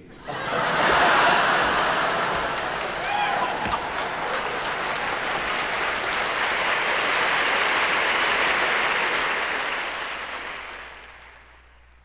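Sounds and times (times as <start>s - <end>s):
audience applause: 0.3s - 11.8s.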